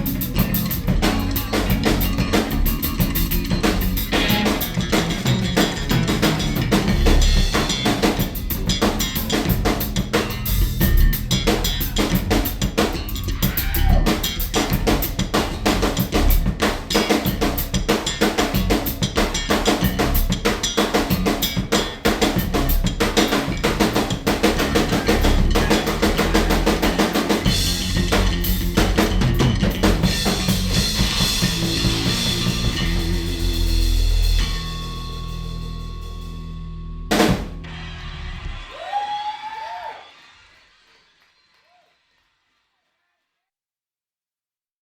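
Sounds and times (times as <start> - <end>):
electric guitar: 0.0 - 38.6
fast busy drum kit: 0.0 - 39.2
bass: 0.0 - 39.9.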